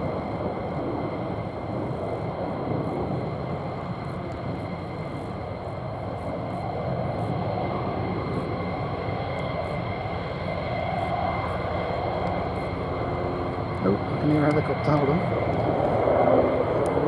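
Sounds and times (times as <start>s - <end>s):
distant jet engine rumble: 0.0s - 17.0s
high jet whine: 0.0s - 17.0s.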